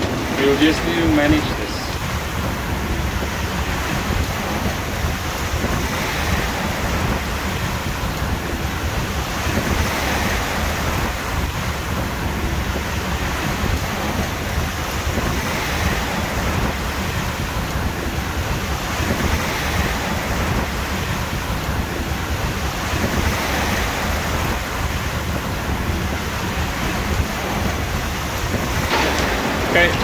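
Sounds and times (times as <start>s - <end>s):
waves rushing: 0.0s - 30.0s
wind buffeting microphone: 0.0s - 30.0s.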